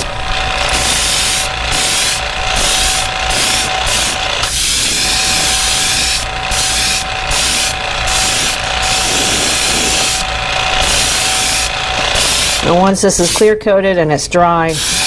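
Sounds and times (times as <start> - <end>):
airbrush spraying paint: 0.0 - 13.6, 14.7 - 15.0
steady low hum: 0.0 - 15.0.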